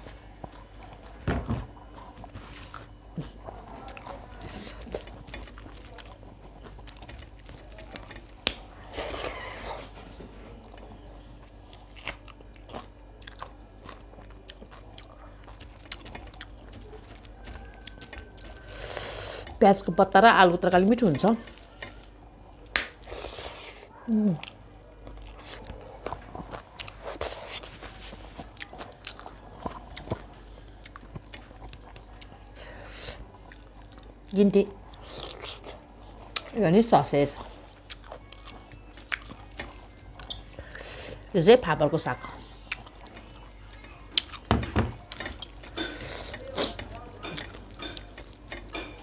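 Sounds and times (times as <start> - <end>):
chewing and biting food: 0.0 - 19.6, 20.8 - 36.6, 37.2 - 41.3, 42.1 - 49.0.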